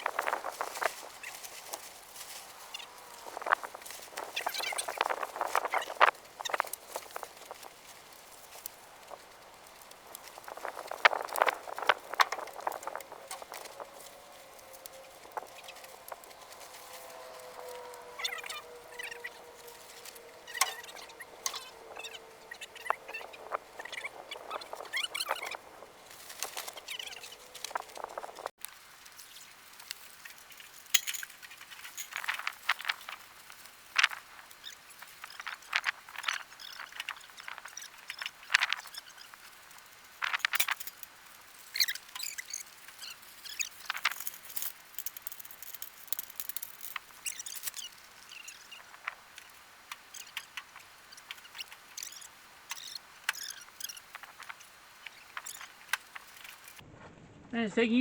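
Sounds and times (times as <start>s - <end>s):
camping gear rustling and clinking: 0.0s - 56.8s.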